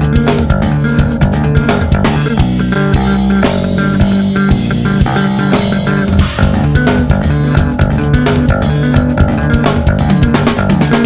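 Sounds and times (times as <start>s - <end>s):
drum kit with cymbals: 0.0s - 11.0s
electric bass riffing: 0.0s - 11.0s.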